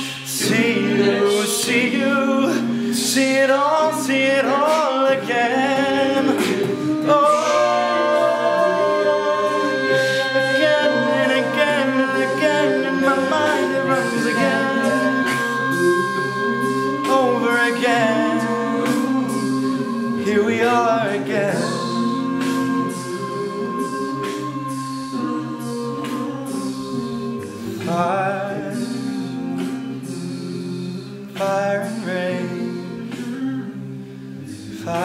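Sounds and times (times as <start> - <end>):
male choir singing in close harmony: 0.0 - 35.0.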